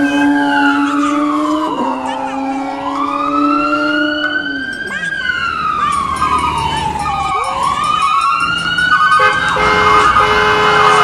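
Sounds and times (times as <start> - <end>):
fire engine siren wailing: 0.0 - 11.0.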